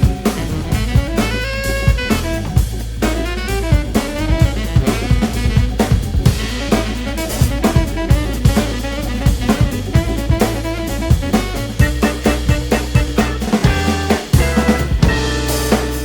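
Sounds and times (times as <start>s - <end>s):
music with drum kit and bass: 0.0s - 16.0s.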